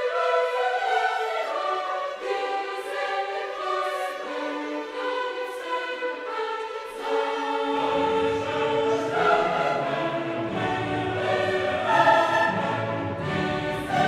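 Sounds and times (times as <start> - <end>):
choir singing chords: 0.0 - 14.0
low orchestral instruments: 0.0 - 14.0.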